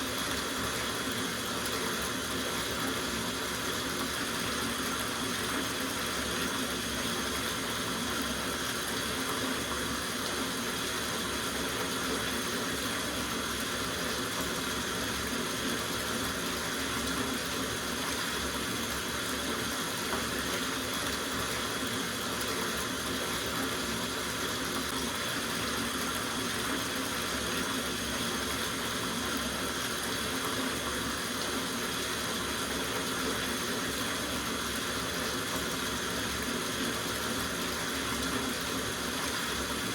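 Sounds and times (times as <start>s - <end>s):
tap water running into bathtub: 0.0s - 39.9s.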